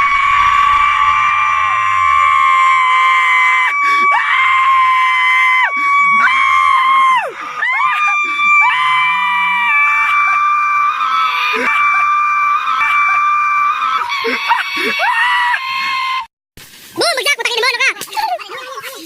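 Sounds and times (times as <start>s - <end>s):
group of people screaming: 0.0s - 16.3s.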